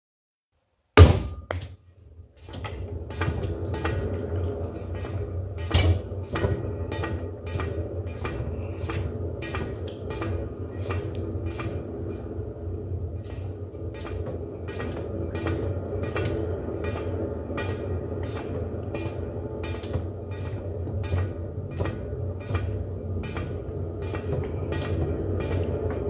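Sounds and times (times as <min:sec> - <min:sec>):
potter's wheel humming: 0:02.2 - 0:26.0.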